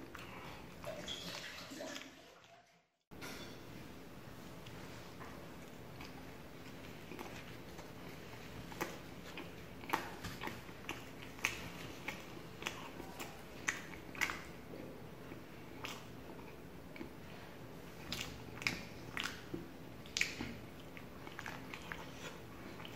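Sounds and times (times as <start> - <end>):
person chewing food: 4.5 - 22.9.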